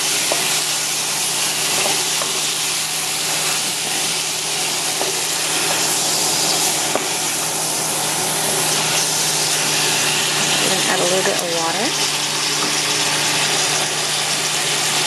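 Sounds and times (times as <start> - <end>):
vegetables sizzling in a hot pan: 0.0 - 15.0.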